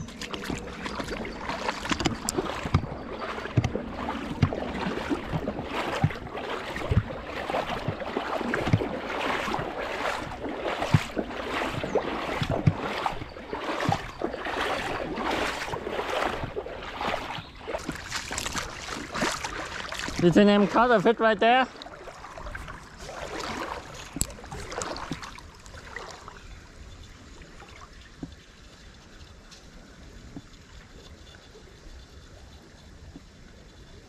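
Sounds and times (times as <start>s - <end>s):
creek water splashing and gurgling: 0.0s - 34.0s.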